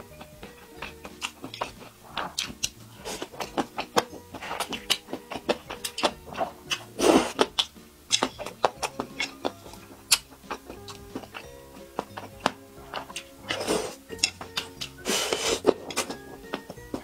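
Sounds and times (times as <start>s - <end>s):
soft background music: 0.0s - 17.0s
wet chewing and slurping: 0.0s - 17.0s.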